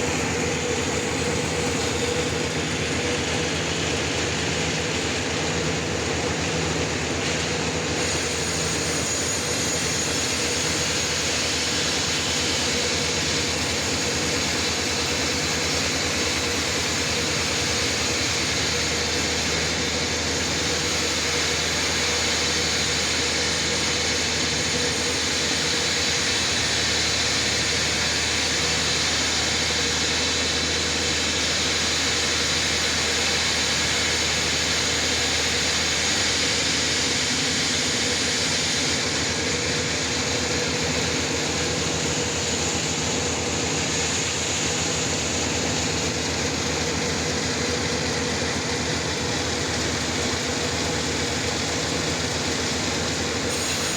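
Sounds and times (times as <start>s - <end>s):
saw cutting log hiss: 0.0s - 53.9s.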